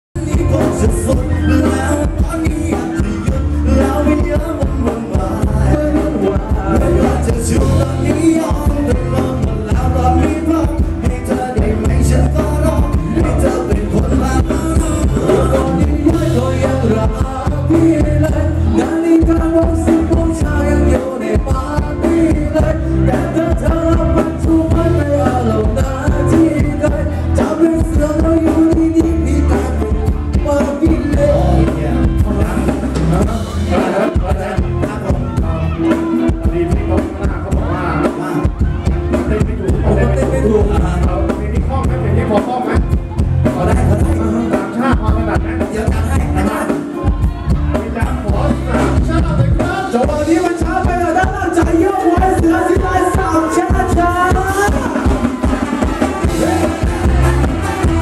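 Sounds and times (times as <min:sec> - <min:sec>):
live band playing dance song: 0:00.2 - 0:58.0
person singing through pa: 0:00.2 - 0:58.0.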